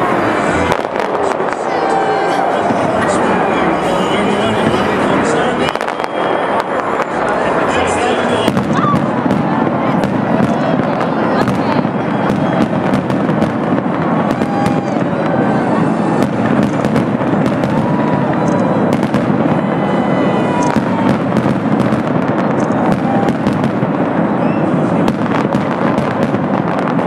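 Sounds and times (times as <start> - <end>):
crowd voices: 0.0 - 27.0
fireworks bangs and crackling: 0.0 - 27.0.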